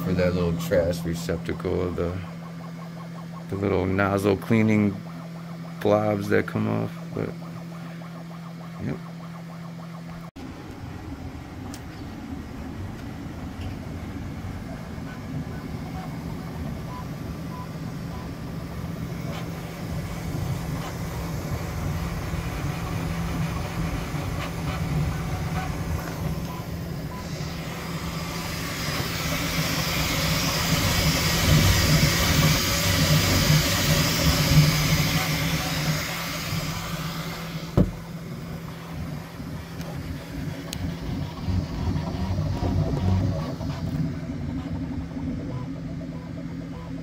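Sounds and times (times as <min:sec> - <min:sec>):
mechanical running noise: 0:00.0 - 0:47.0.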